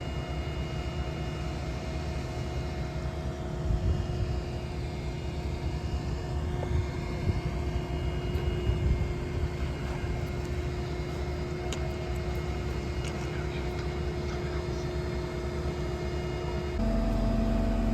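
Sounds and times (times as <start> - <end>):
engine running steadily: 0.0 - 17.9.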